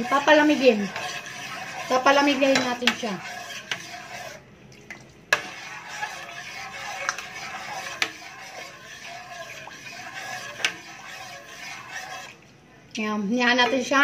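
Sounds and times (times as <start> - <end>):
metal ladle scraping pot: 0.0 - 4.5, 5.3 - 12.4.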